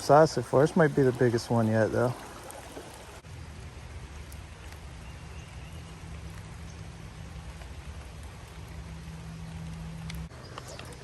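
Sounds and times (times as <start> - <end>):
steady rain falling: 0.0 - 11.0
stream water flowing: 0.0 - 11.0.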